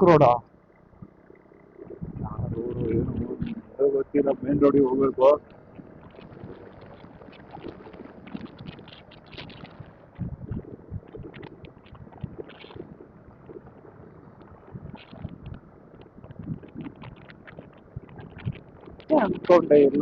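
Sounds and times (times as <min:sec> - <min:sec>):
motorcycle engine: 0:00.0 - 0:16.1
wind rushing over microphone: 0:01.8 - 0:20.0.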